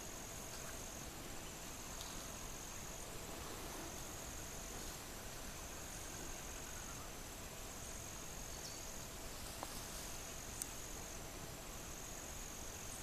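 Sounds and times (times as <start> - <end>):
faint hiss: 0.0 - 13.0
insects trilling: 0.0 - 13.0.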